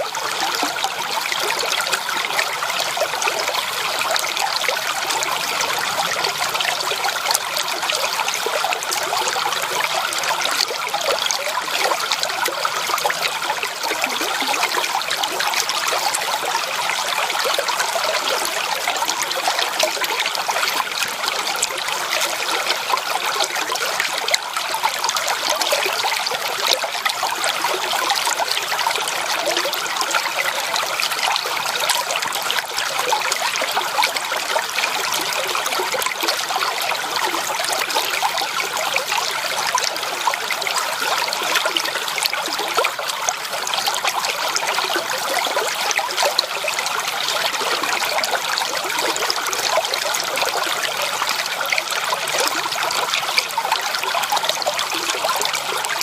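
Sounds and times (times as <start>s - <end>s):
creek water babbling over stones: 0.0s - 56.0s.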